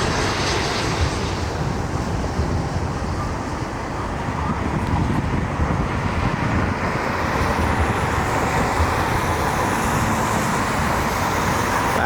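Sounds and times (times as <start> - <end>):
distant jet engine roar: 0.0 - 12.0.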